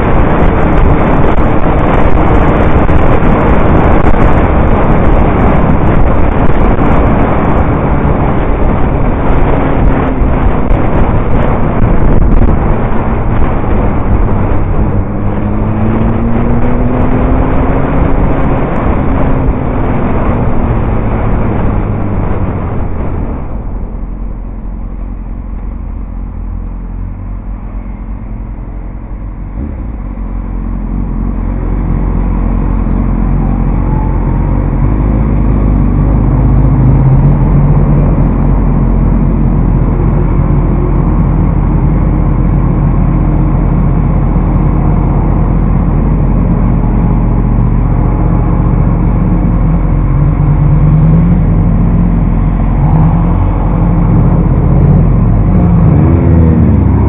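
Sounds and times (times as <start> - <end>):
motorcycle engine: 0.0 - 57.0
wind rush noise: 0.0 - 57.0.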